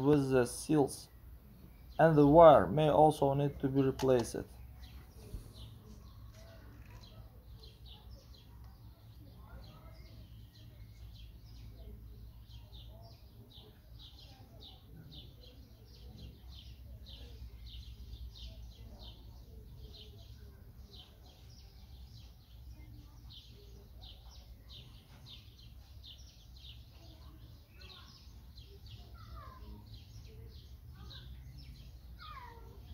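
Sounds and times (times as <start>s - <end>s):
bird chirping: 0.0s - 32.9s.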